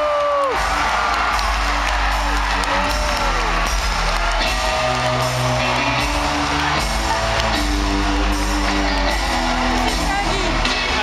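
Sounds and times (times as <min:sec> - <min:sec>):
heavy bass: 0:00.0 - 0:11.0.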